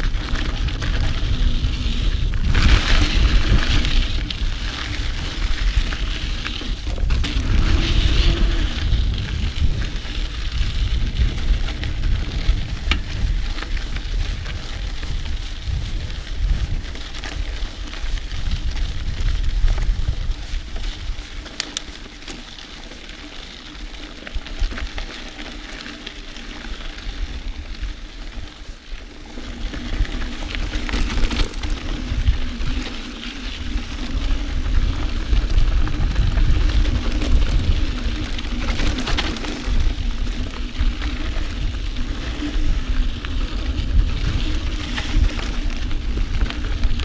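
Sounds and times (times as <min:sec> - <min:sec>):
bike tyre noise and rattling: 0:00.0 - 0:47.0.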